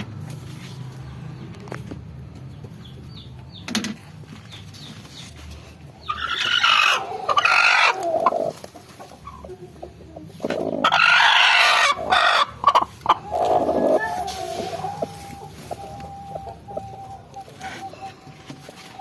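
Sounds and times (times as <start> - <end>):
chickens clucking: 0.1 - 19.0
chickens calling: 0.4 - 19.0.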